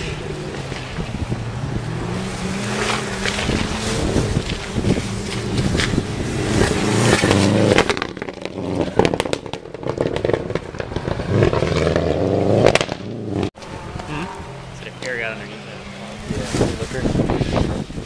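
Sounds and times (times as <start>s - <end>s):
gravel crackling and pelting: 0.0s - 18.0s
rally car engine at full throttle: 0.0s - 18.0s.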